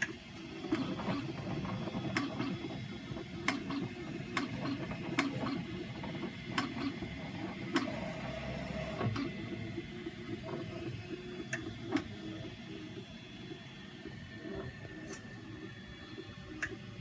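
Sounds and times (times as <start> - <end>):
printer mechanical hum: 0.0 - 17.0.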